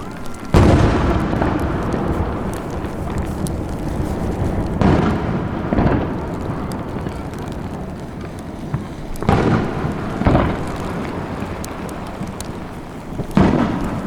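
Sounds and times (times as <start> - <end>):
firework shells bursting with booms: 0.0 - 14.0
rolling rumble of echoes: 0.0 - 14.0.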